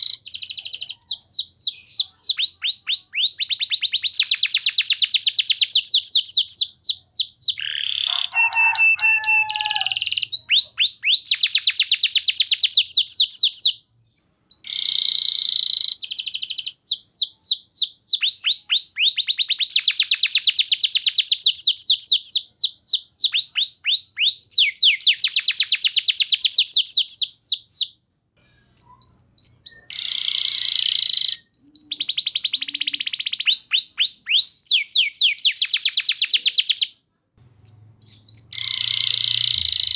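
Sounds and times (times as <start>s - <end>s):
canary singing trills: 0.0s - 13.8s, 14.5s - 28.0s, 28.7s - 37.0s, 37.6s - 39.9s.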